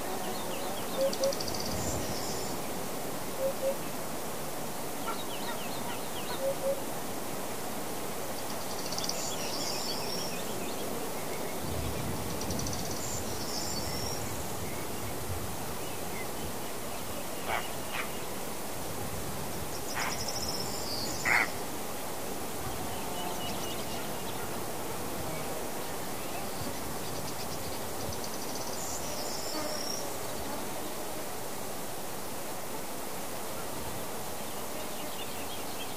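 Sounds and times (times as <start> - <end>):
steady hiss: 0.0 - 35.9.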